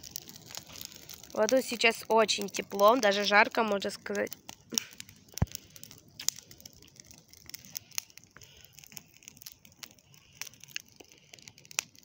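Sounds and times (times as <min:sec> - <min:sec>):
bonfire crackling and popping: 0:00.0 - 0:12.0.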